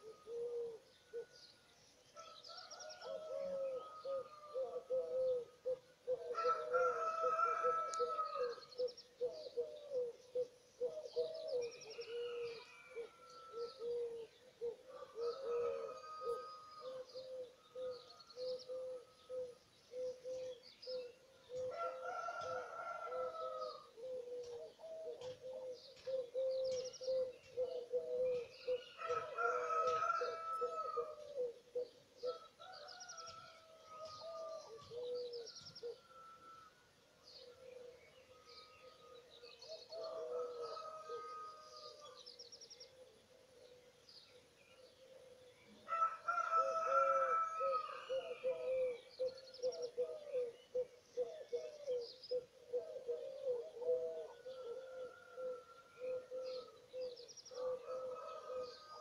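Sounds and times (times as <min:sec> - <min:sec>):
birds singing: 0:00.0 - 0:59.0.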